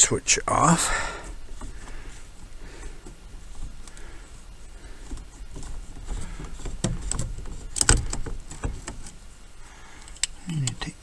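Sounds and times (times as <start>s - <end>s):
handling noise rustling: 0.0s - 11.0s.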